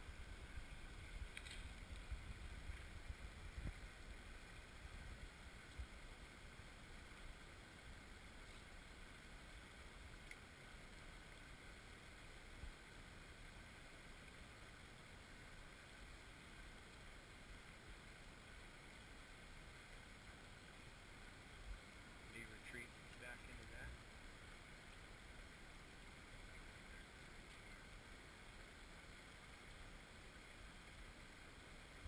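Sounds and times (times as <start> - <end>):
faint outdoor hiss: 0.0 - 32.0.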